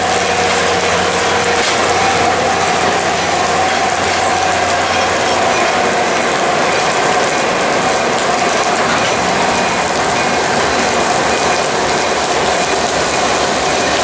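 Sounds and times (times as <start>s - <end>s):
rail car rattling and clatter: 0.0s - 14.0s.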